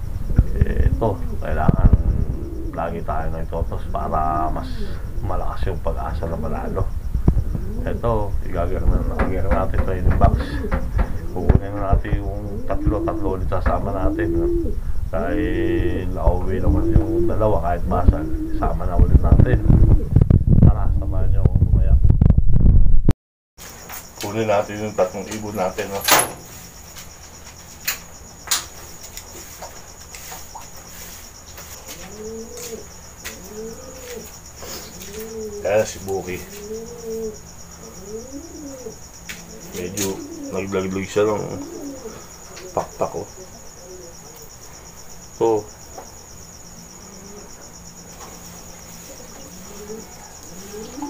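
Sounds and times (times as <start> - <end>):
pigeons cooing: 0.0 - 20.2, 27.8 - 51.0
crickets chirping: 0.0 - 22.0, 23.6 - 51.0.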